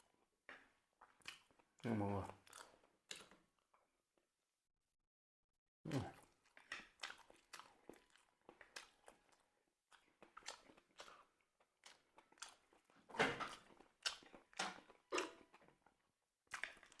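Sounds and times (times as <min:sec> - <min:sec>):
crunching and chewing bread: 0:00.0 - 0:03.9, 0:05.9 - 0:17.0.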